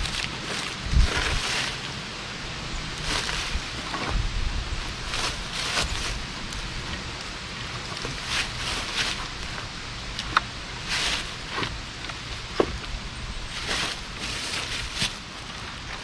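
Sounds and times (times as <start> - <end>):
firewood scraping and rustling: 0.0 - 16.0.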